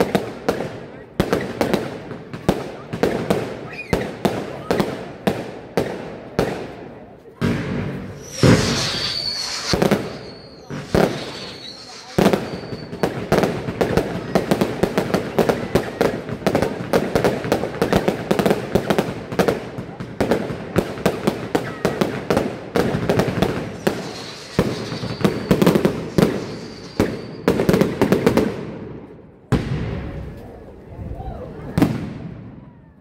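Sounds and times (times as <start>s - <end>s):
fireworks bangs and crackling: 0.0s - 33.0s.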